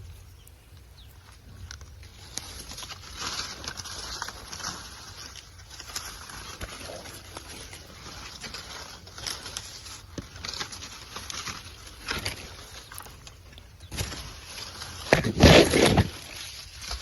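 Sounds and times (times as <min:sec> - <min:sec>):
dry stalks rustling and crackling: 0:00.1 - 0:17.0.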